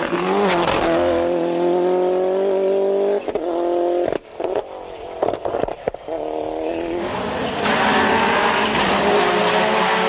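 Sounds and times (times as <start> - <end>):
rally car engine at high revs: 0.0 - 4.6, 5.2 - 10.0.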